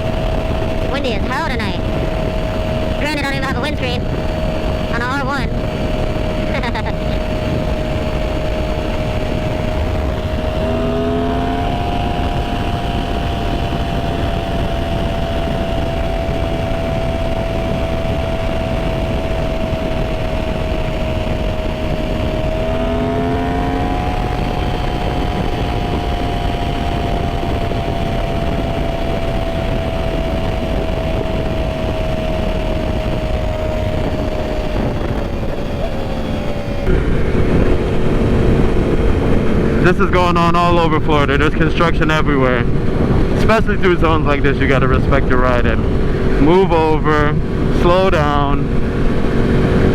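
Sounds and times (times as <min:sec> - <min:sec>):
motorcycle engine cruising: 0:00.0 - 0:49.9
wind noise: 0:00.0 - 0:49.9.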